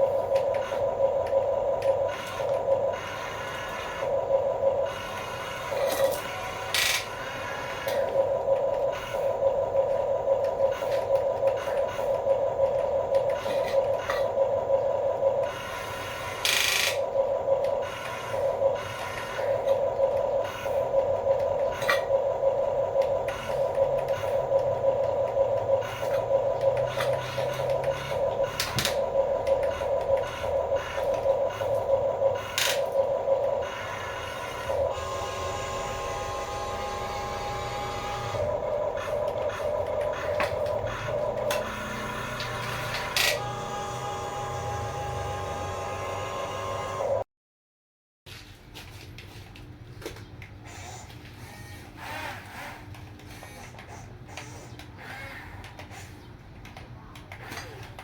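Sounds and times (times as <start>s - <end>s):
toy electric motors whining: 0.0s - 47.2s, 50.6s - 56.4s, 57.2s - 58.0s.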